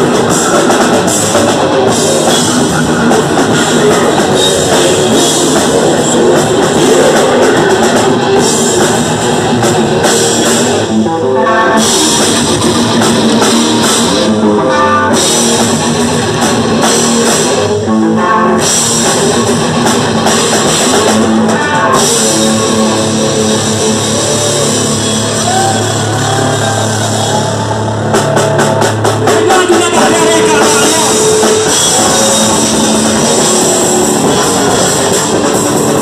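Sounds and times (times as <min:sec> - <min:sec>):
metal band playing live: 0:00.0 - 0:36.0.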